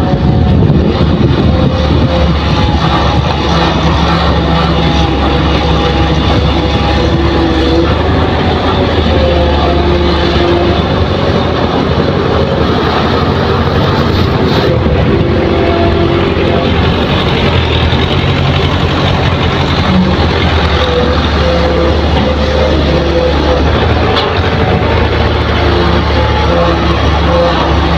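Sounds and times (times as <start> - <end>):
excavator diesel engine: 0.0 - 27.9.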